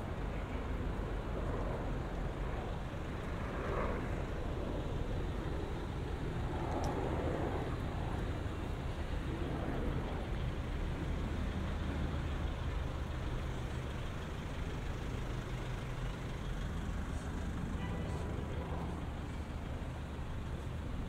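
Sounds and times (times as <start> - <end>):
low engine rumble: 0.0 - 21.0
vehicles passing: 0.0 - 21.0.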